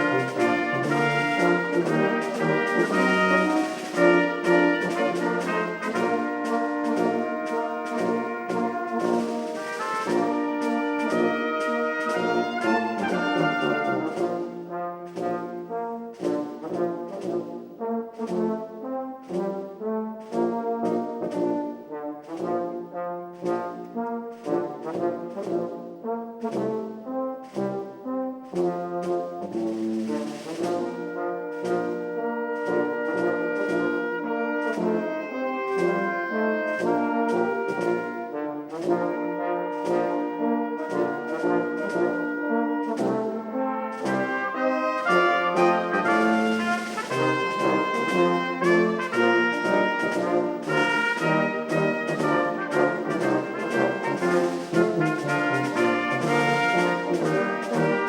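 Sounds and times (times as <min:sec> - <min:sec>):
brass chords: 0:00.0 - 0:58.0
orchestra playing a hymn: 0:00.0 - 0:58.0.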